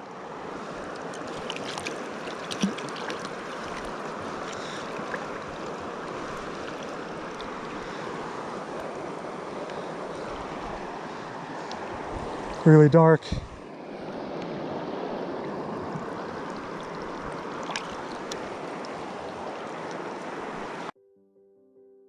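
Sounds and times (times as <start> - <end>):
river water flowing: 0.0 - 20.9
water splashes and ticks: 0.5 - 13.1, 14.3 - 14.6, 15.4 - 20.9.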